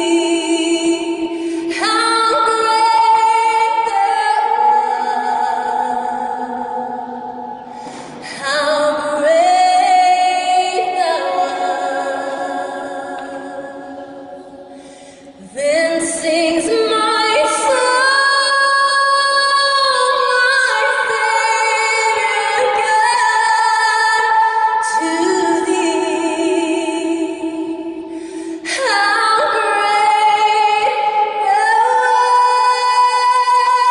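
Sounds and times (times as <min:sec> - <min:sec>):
woman singing a cappella: 0:00.0 - 0:33.9.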